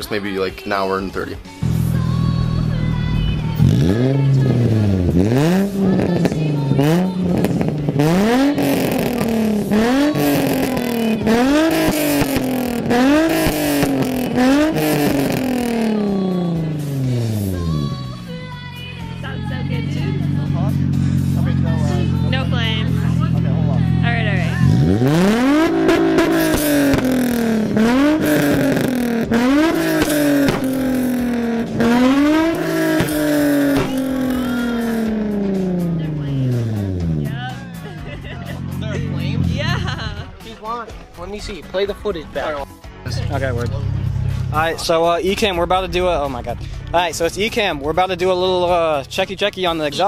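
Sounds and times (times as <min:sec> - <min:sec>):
exhaust crackles: 0:01.6 - 0:42.4, 0:43.0 - 0:50.0
car engine revving: 0:01.6 - 0:50.0.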